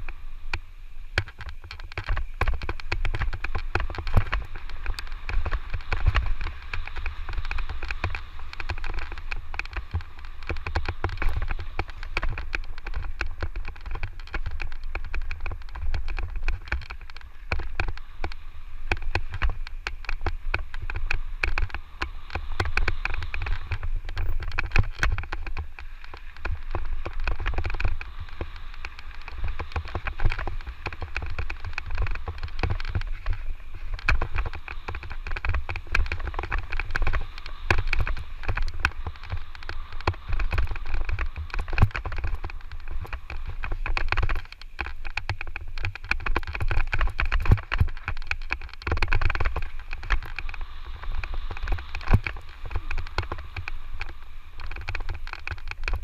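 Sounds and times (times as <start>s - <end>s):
tyres on loose ground: 0.0s - 56.0s
wind buffeting microphone: 0.0s - 56.0s
bike rattling and knocking: 1.1s - 56.0s.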